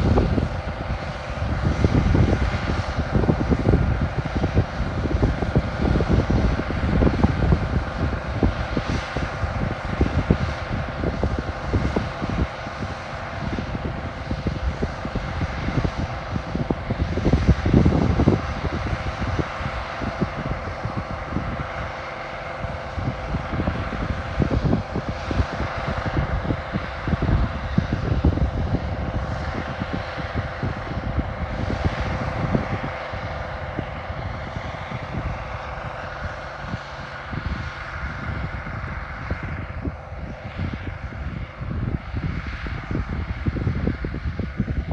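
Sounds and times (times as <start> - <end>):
combine harvester engine drone: 0.0 - 44.9
low rumbling: 0.0 - 44.9.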